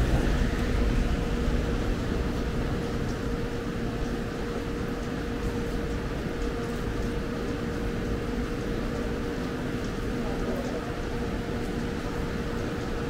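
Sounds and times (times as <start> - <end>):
mechanical hum with low rumble: 0.0 - 13.0.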